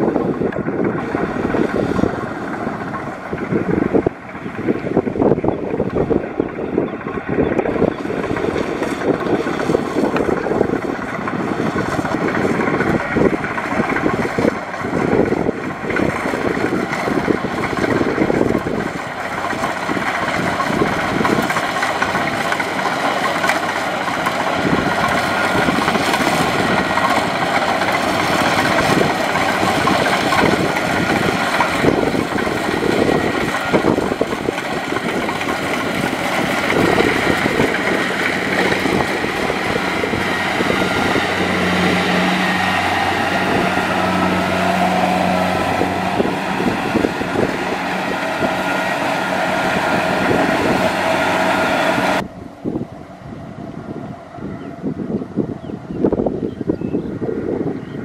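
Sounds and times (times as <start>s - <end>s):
combine harvester engine: 0.0s - 58.0s.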